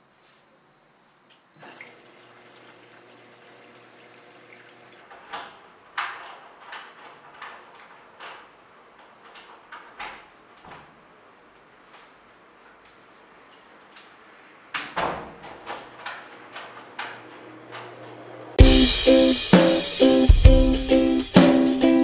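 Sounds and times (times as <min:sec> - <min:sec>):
washing machine hum: 0:01.6 - 0:11.9, 0:14.1 - 0:22.0.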